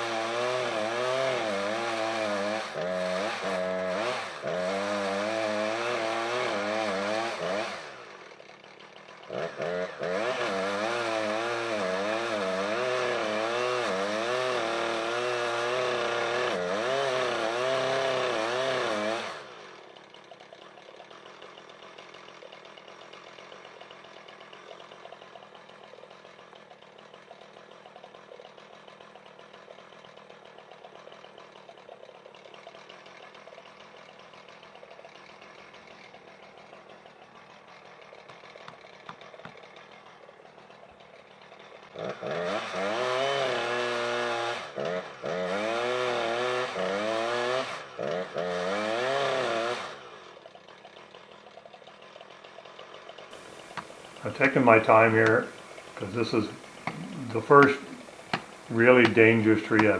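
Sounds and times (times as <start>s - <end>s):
chainsaw cutting: 0.0s - 59.9s.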